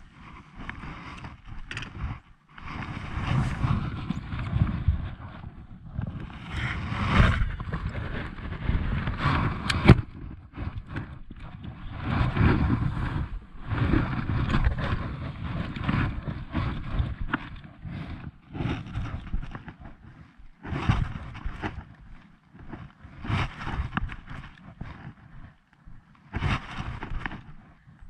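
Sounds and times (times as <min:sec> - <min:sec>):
wind gusting over microphone: 0:00.0 - 0:25.5, 0:26.3 - 0:28.0
water and kayak handling noises: 0:00.0 - 0:28.0.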